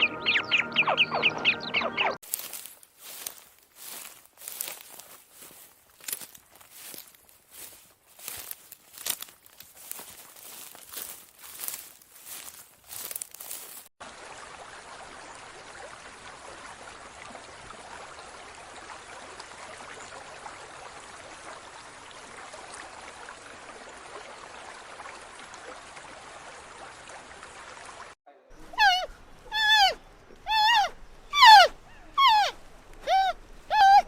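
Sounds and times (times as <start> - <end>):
water noise with fine crackle: 2.2 - 33.8.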